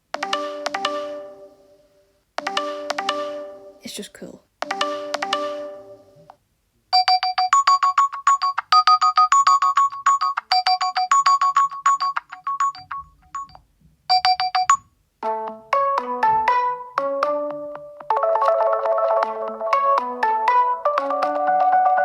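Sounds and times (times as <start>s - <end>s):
ringtone tune of stepped notes: 0.1s - 1.8s, 2.4s - 3.8s, 4.6s - 6.3s, 7.0s - 22.0s.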